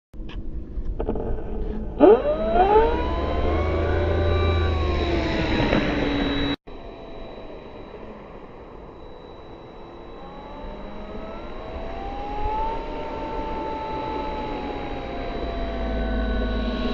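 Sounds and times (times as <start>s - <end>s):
electric motor and propeller whine: 0.3s - 16.9s.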